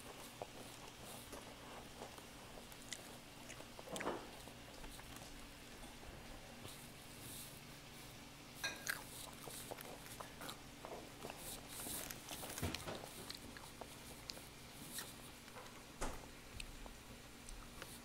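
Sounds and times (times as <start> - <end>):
person chewing: 0.0 - 7.6, 8.6 - 15.9
crisp rice treat crackling: 0.0 - 18.0.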